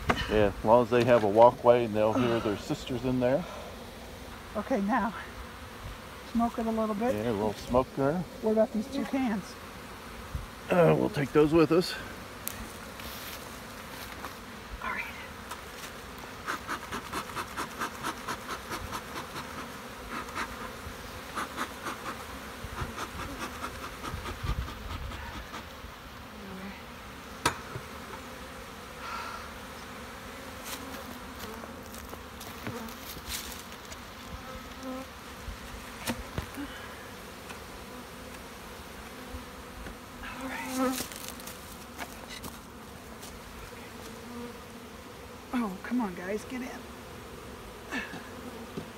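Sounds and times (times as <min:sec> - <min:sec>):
honeybees buzzing: 0:00.0 - 0:48.9.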